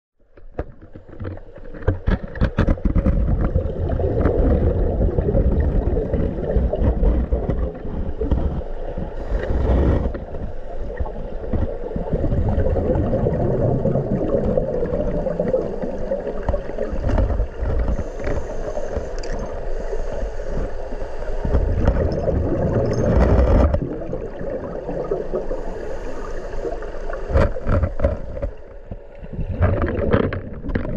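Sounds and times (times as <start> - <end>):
underwater clicks and knocks: 0.2 - 19.6, 21.4 - 24.3, 27.1 - 30.9
underwater churning rumble: 0.6 - 30.9.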